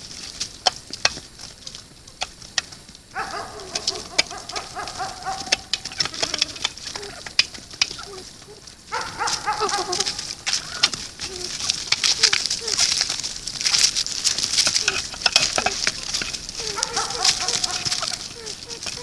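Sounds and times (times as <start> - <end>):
birds pecking grain: 0.0 - 19.0
wavering animal call: 1.4 - 2.4, 3.1 - 19.0.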